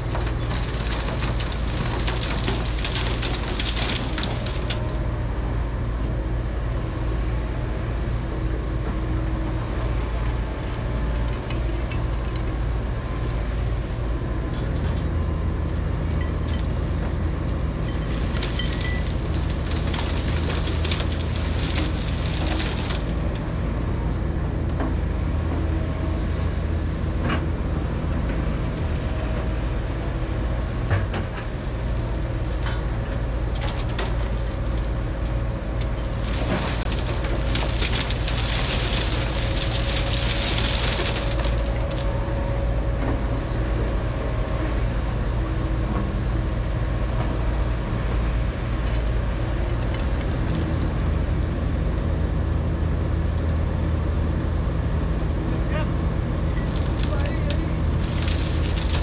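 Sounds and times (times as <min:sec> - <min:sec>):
excavator diesel engines droning: 0:00.0 - 0:59.0.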